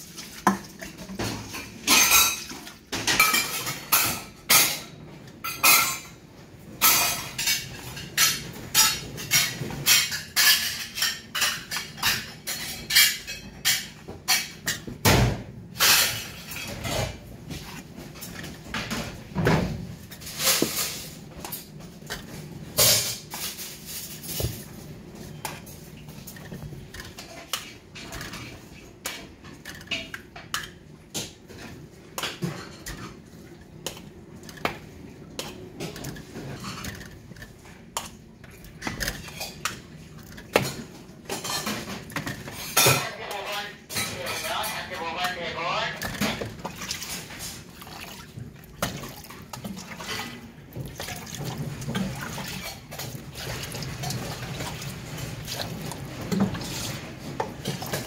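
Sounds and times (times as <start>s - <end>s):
pots and dishes clattering: 0.0s - 58.0s.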